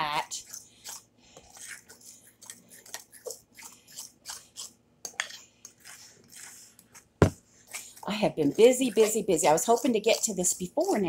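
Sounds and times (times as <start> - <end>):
spoon stirring batter in glass bowl: 0.0 - 11.0.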